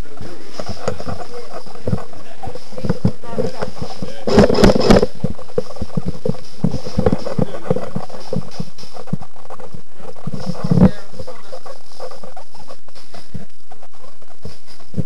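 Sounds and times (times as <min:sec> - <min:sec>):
footsteps: 0:00.0 - 0:15.0
gear knocking and rustling: 0:00.0 - 0:15.0.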